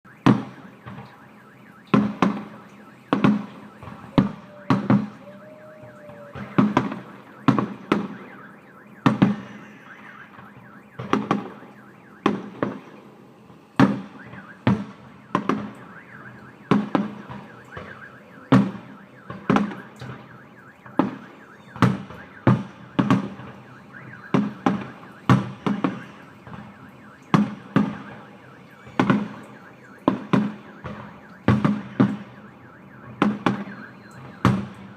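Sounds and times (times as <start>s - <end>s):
fireworks banging with echo: 0.1s - 34.9s.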